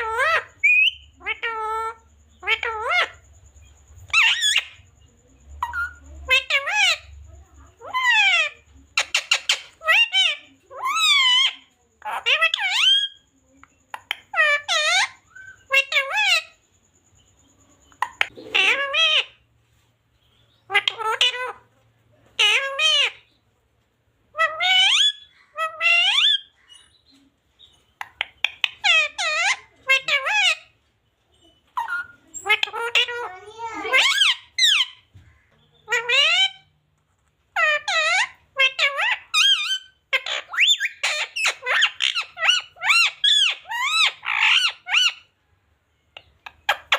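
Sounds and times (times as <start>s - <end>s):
parakeet squawking: 0.0s - 3.3s, 4.0s - 4.9s, 5.6s - 13.3s, 13.9s - 16.6s, 17.9s - 19.4s, 20.5s - 21.7s, 22.3s - 23.4s, 24.3s - 27.1s, 28.0s - 30.8s, 31.6s - 36.7s, 37.5s - 45.4s, 46.2s - 46.9s
parrot calling: 0.0s - 19.6s, 20.5s - 23.4s, 24.3s - 46.9s.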